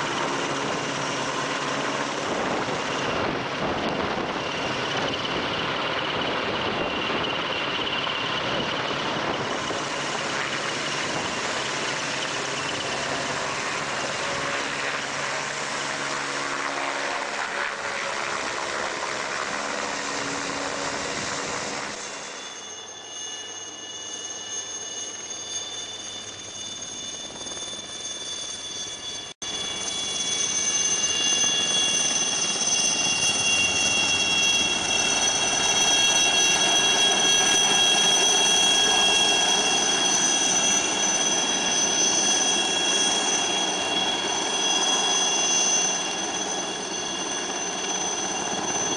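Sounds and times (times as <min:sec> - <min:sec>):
helicopter turbine and rotor noise: 0:00.0 - 0:48.9
high turbine whine: 0:00.0 - 0:48.9.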